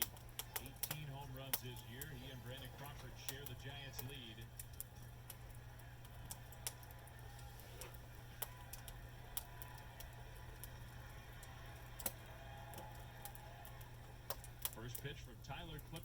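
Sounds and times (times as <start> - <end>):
bonfire crackling: 0.0 - 16.0
faint low hum: 0.0 - 16.0.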